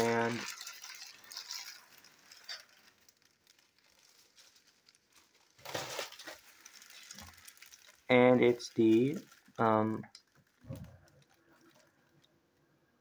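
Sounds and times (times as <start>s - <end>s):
plastic mailer crinkling: 0.0s - 12.6s.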